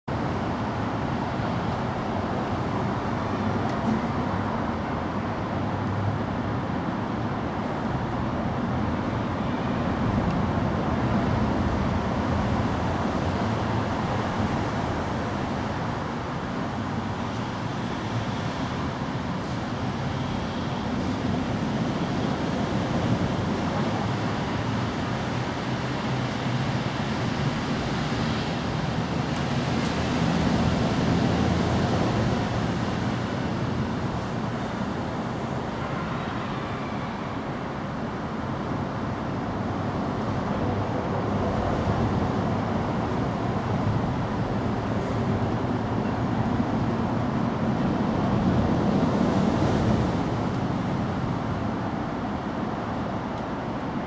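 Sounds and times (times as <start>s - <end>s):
steady rushing noise: 0.1s - 54.0s.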